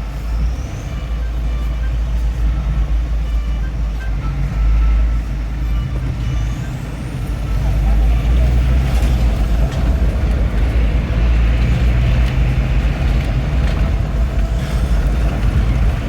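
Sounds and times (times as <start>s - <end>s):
car rumbling over cobblestones: 0.0s - 16.0s.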